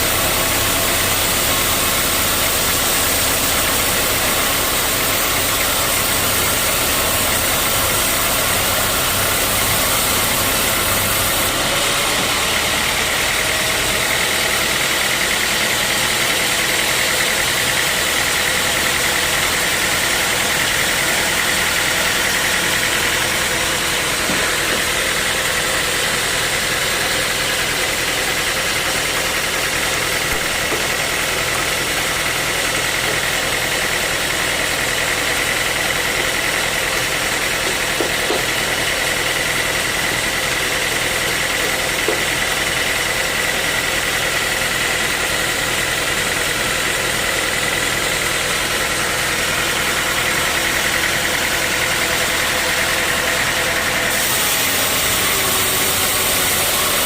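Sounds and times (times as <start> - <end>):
high saw whine: 0.0 - 57.0
sawmill machinery drone: 0.0 - 57.0.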